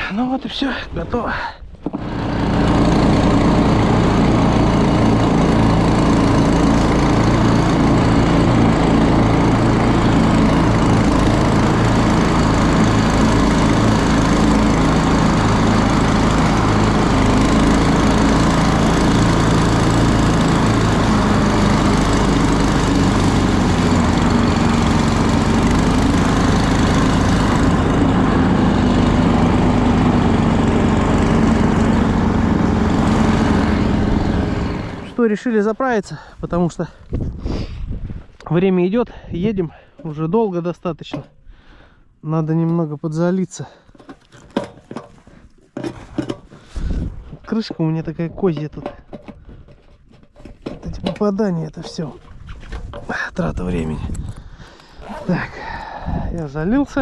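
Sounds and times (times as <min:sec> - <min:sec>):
small petrol engine running: 0:01.8 - 0:37.0, 0:43.7 - 0:57.0.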